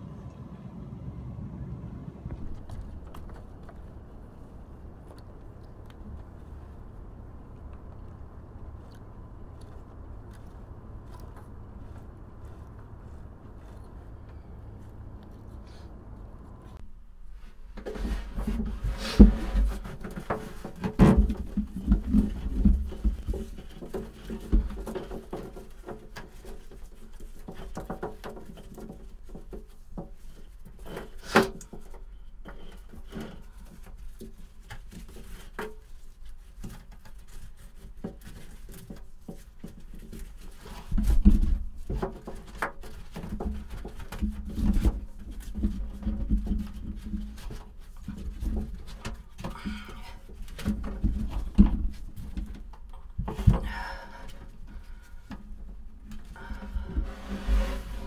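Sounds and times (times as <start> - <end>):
rope knocking and rubbing: 2.3 - 58.0.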